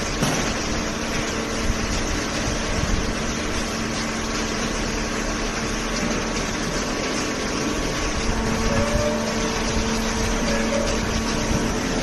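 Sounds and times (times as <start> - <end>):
baler machine hum: 0.0 - 12.0
constant mechanical noise: 0.0 - 12.0.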